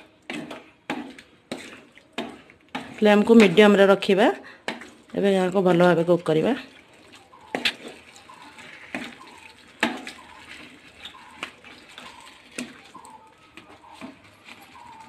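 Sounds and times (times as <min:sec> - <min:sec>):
spatula scraping and knocking pan: 0:00.0 - 0:06.1, 0:07.0 - 0:15.0
wooden spatula stirring thick gravy: 0:00.0 - 0:15.0.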